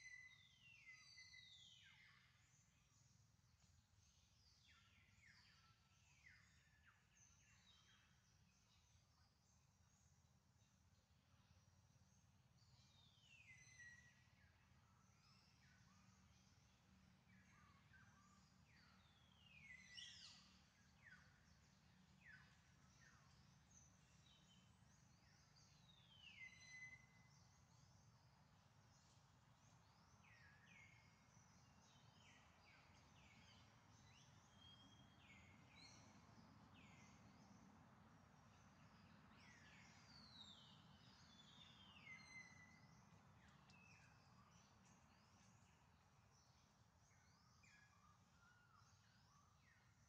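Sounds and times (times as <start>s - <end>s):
faint whistled birdsong: 0.0s - 50.0s.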